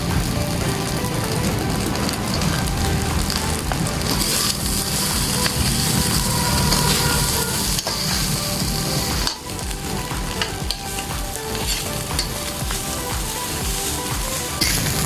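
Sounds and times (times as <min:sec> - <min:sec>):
rice sizzling in a frying pan: 0:00.0 - 0:15.0.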